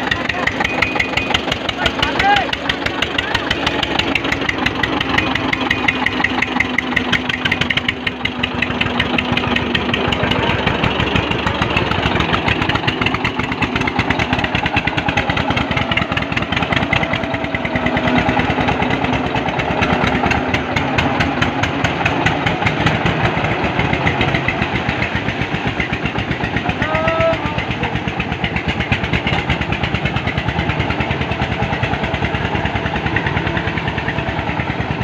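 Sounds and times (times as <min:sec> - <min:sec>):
tractor diesel engines chugging: 0:00.0 - 0:35.0.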